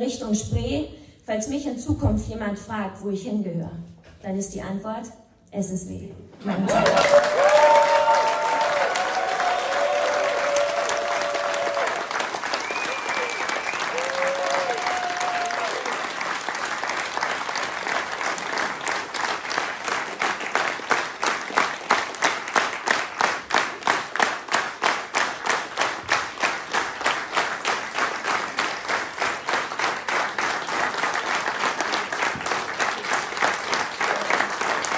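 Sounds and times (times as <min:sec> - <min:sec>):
audience applauding: 0:06.7 - 0:34.9.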